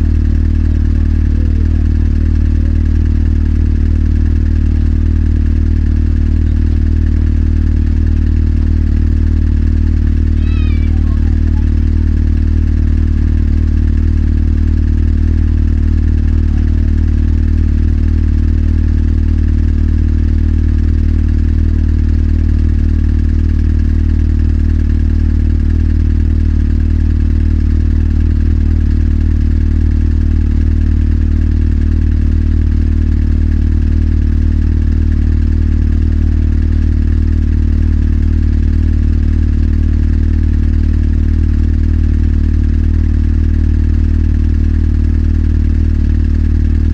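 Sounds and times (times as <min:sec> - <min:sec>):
motorcycle engine running steadily: 0:00.0 - 0:46.9.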